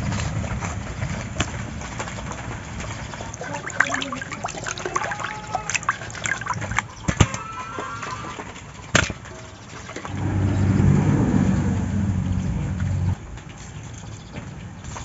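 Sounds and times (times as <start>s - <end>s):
water sloshing and trickling: 0.0s - 15.0s.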